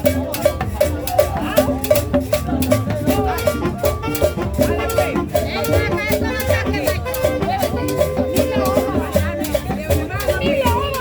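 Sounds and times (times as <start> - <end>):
shaker percussion: 0.0 - 11.0
upbeat tropical dance music: 0.0 - 11.0.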